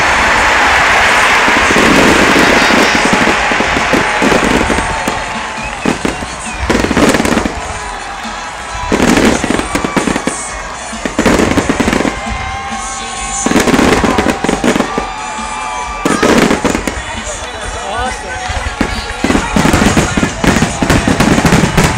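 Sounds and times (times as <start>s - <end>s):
fireworks bangs and crackling: 0.0s - 21.9s.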